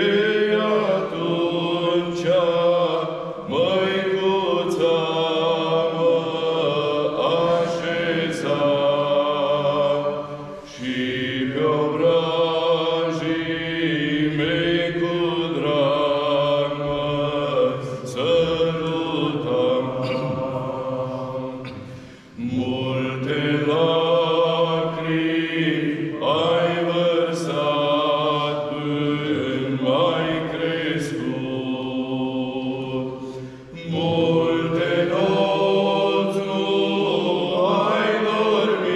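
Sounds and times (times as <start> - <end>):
men singing a hymn unaccompanied: 0.0 - 38.9.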